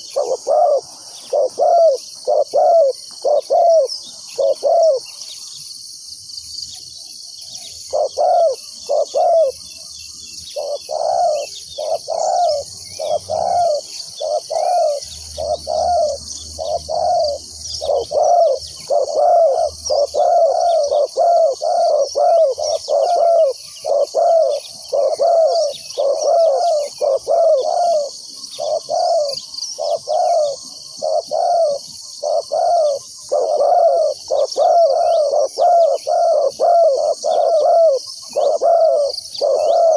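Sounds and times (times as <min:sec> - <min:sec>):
dove cooing: 0:00.0 - 0:05.6, 0:07.5 - 0:39.9.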